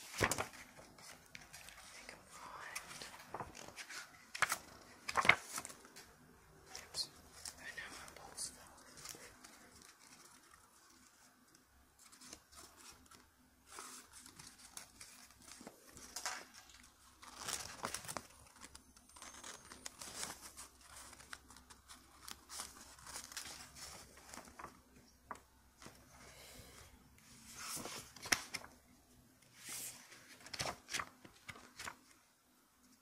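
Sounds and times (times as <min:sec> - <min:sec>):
paper rustling and crinkling: 0:00.0 - 0:26.2, 0:27.2 - 0:28.9, 0:29.5 - 0:32.3.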